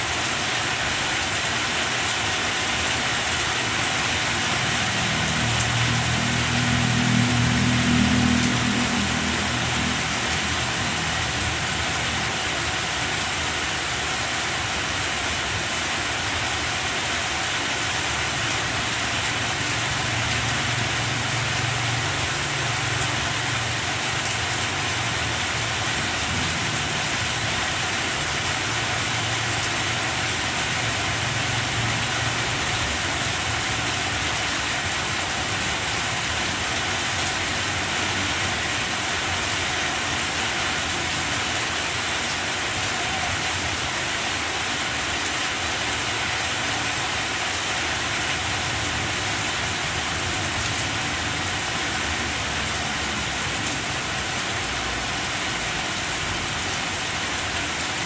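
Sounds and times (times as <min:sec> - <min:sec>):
heavy rain on plants: 0:00.0 - 0:58.0.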